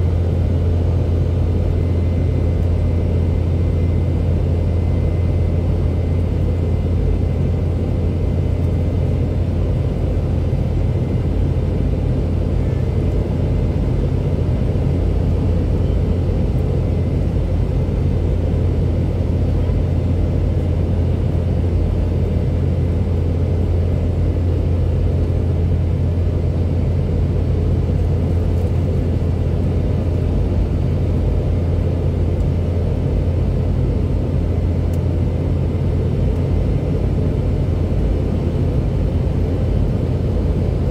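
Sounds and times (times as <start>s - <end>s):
airplane cabin roar: 0.0s - 40.9s.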